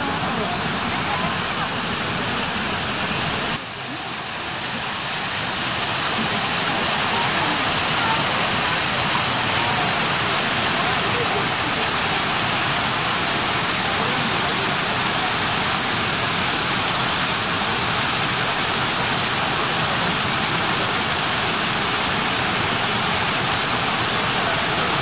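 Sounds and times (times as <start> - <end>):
waterfall rushing onto rocks: 0.0 - 25.0.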